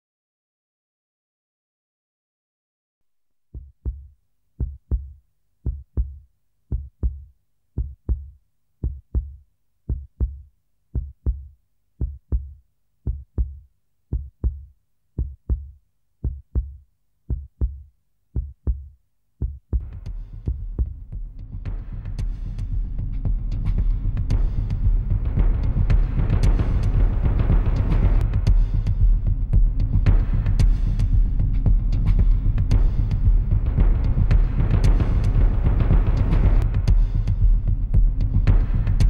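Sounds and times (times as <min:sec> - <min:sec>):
heartbeat thumps: 0:03.6 - 0:39.0.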